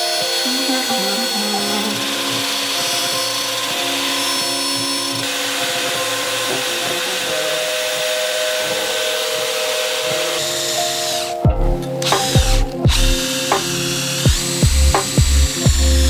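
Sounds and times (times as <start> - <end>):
electric router cutting wood: 0.0 - 16.0.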